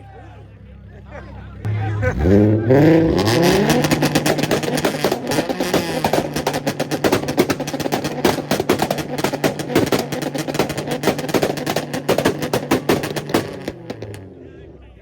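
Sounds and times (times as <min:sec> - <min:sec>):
exhaust pops and bangs: 0:01.7 - 0:14.3
car engine revving on limiter: 0:01.7 - 0:14.5.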